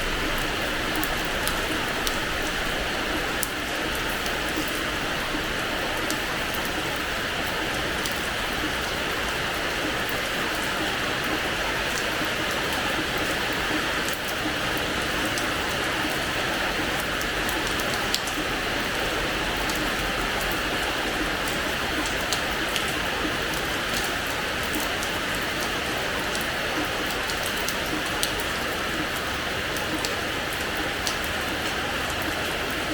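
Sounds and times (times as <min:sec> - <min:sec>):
rain on a hard floor: 0:00.0 - 0:32.9.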